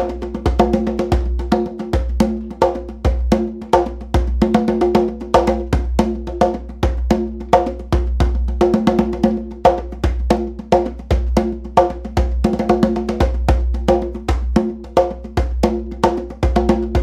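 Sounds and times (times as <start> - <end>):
hand drum played fast: 0.0 - 17.0.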